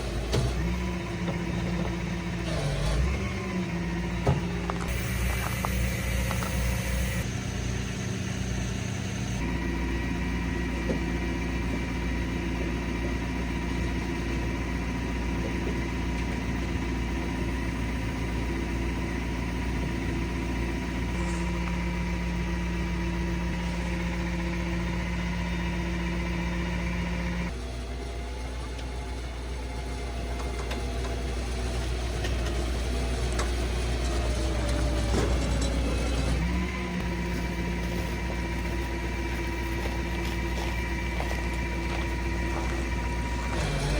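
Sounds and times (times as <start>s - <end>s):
truck engine running steadily: 0.0s - 43.9s.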